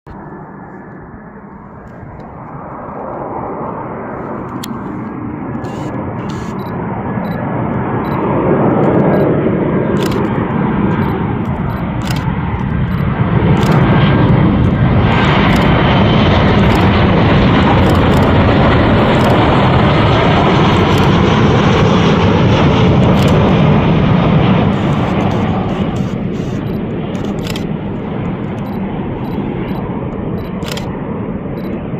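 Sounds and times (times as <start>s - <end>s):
jet engines roaring: 0.1s - 31.9s.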